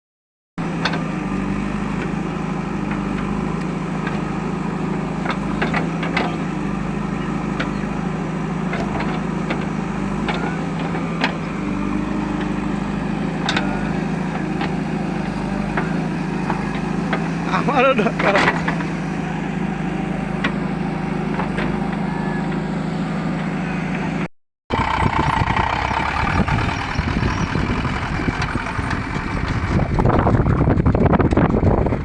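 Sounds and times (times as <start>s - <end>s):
diesel engine running: 0.6s - 32.0s.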